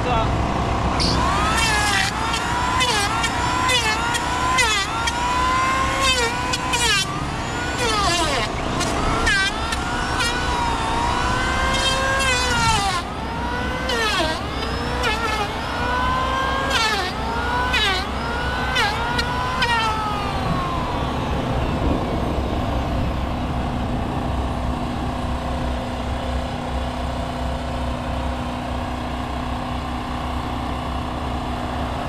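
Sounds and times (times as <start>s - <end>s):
engine revving: 0.0s - 32.0s.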